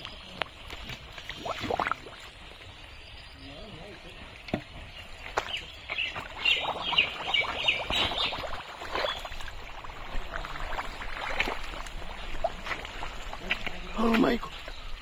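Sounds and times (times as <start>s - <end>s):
mud and water splashing: 0.0s - 15.0s.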